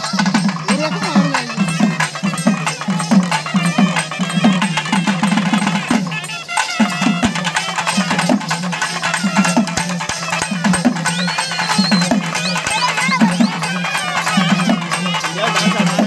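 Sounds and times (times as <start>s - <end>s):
folk melody: 0.0s - 16.0s.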